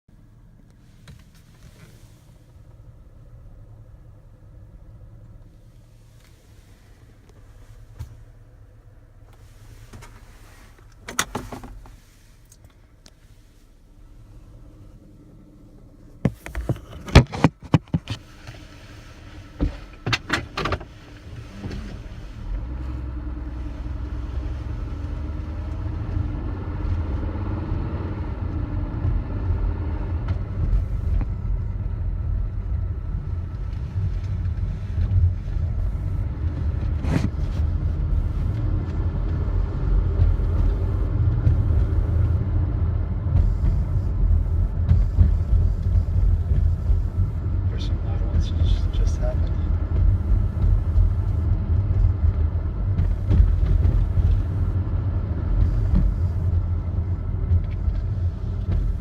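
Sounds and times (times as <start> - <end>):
low road and engine rumble: 0.0 - 59.0
rattling buzz over bumps: 4.5 - 13.2, 13.8 - 59.0.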